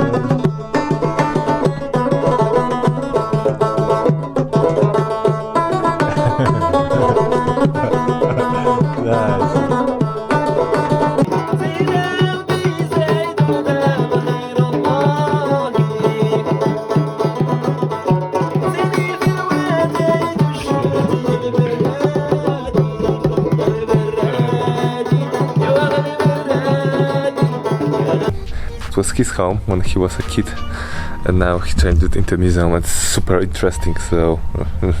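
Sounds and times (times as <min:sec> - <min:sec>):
banjo plucked notes: 0:00.0 - 0:28.9.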